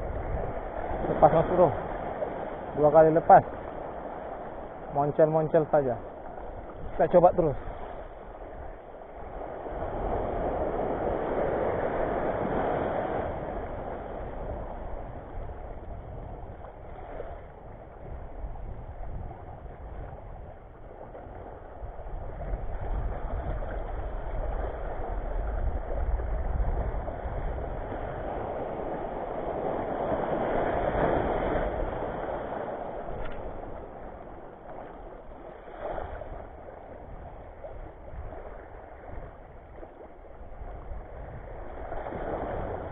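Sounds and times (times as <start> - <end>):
small waves washing over shore: 0.0 - 42.9
wind on microphone: 0.0 - 42.9.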